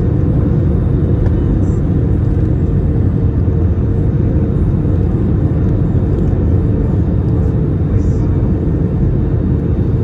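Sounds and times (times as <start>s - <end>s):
faint steady hum: 0.0s - 10.0s
jet engine rumble in cabin: 0.0s - 10.0s.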